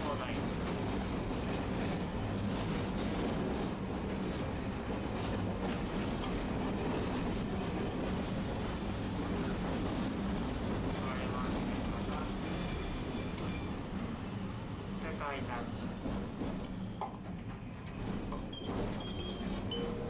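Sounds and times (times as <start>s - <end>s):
streetcar wheels and motor rumble: 0.0s - 20.0s.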